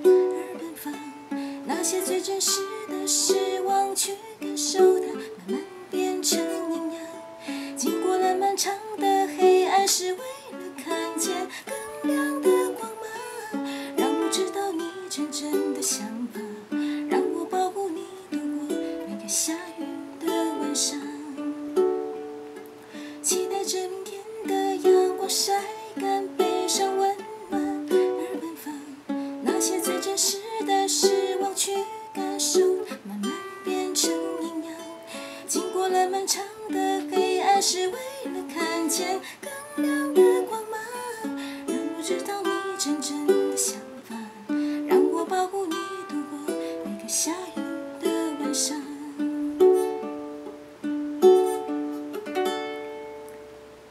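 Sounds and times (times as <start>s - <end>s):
person singing quietly: 0.0s - 53.9s
ukulele strumming: 0.0s - 53.9s.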